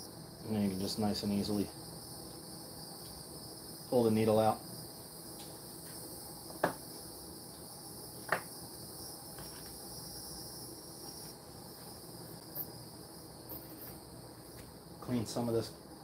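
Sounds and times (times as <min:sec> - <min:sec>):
insects calling: 0:00.0 - 0:16.0.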